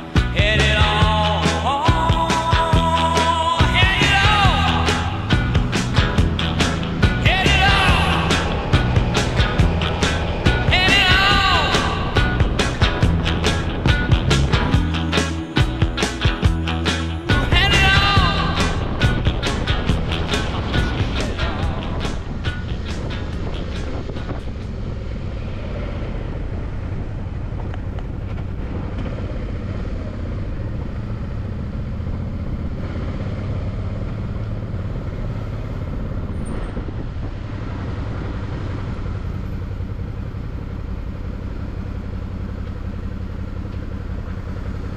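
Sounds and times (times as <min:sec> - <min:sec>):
motorcycle engine at low revs: 0:00.0 - 0:44.9.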